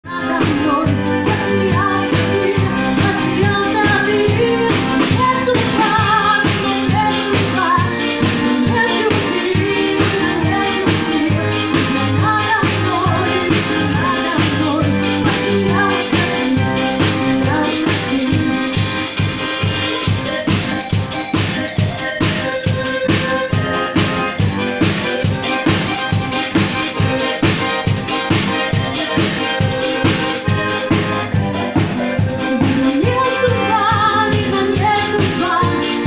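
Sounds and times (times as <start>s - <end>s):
band playing pop-dance music: 0.0s - 36.0s
drum-kit beat: 0.0s - 36.0s.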